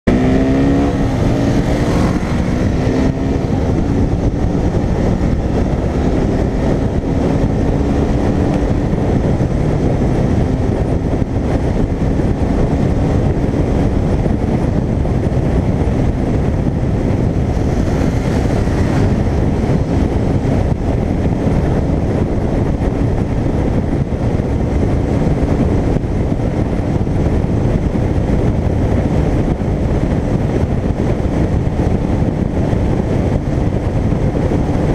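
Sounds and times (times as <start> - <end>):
motorcycle engine accelerating: 0.0 - 34.9
wind rushing: 0.0 - 34.9.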